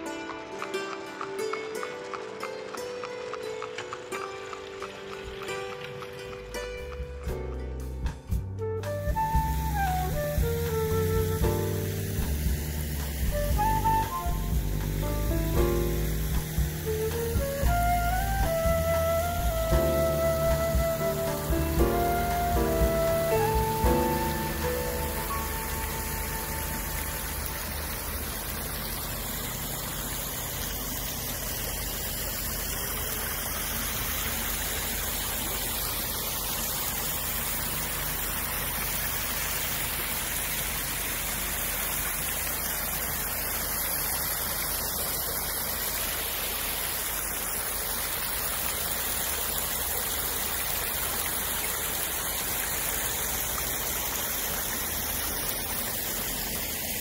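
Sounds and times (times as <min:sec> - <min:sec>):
fountain water splashing: 0:00.0 - 0:08.2, 0:08.8 - 0:57.0.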